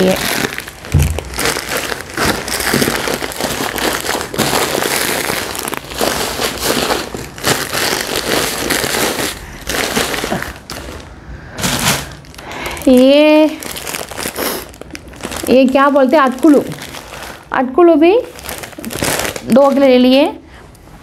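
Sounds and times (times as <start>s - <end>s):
plastic packets crinkling: 0.0s - 20.2s.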